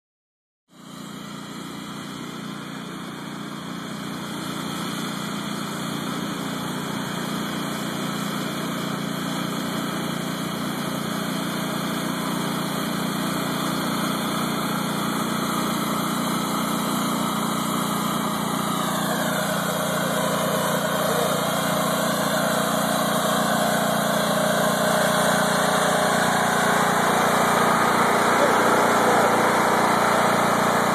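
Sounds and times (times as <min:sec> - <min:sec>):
riding lawn mower engine running: 0:00.7 - 0:30.9.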